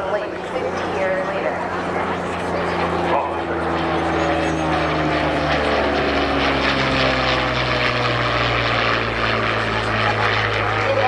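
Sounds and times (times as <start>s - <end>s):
propeller plane flying over: 0.0s - 11.0s.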